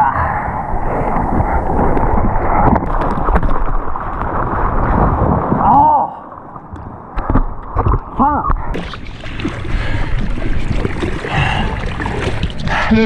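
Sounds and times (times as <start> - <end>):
underwater bubbling gurgles: 0.8 - 12.9.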